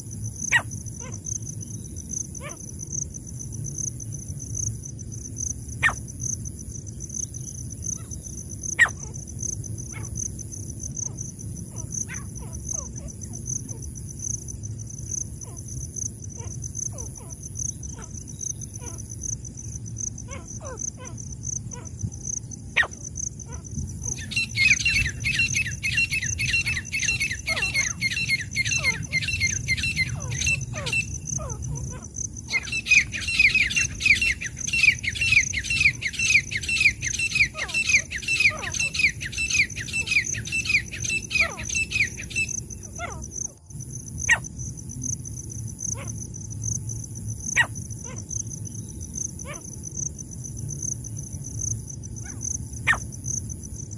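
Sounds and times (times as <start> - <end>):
high insect trill: 0.0 - 53.9.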